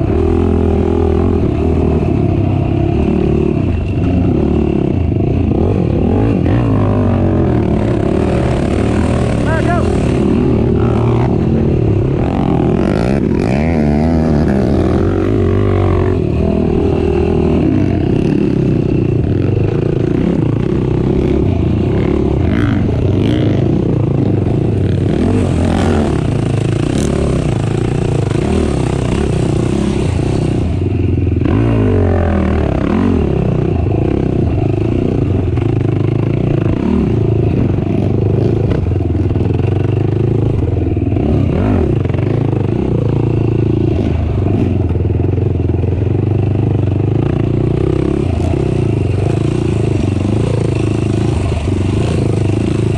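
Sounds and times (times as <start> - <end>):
atv engine revving: 0.0 - 52.9.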